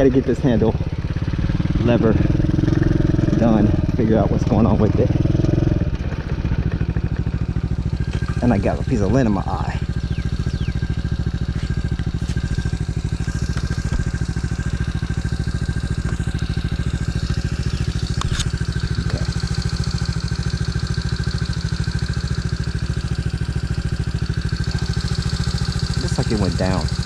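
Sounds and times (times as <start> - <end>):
pit bike engine idling: 0.0 - 27.0.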